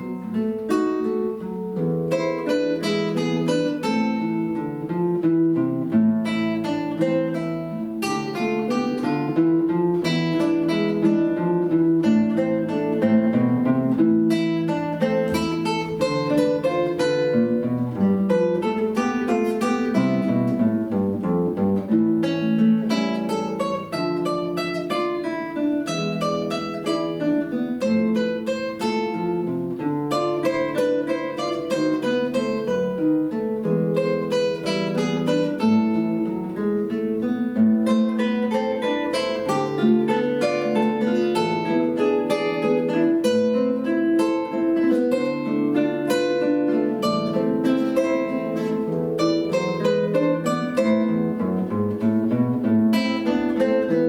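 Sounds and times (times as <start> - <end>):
acoustic guitar duet: 0.0 - 54.0.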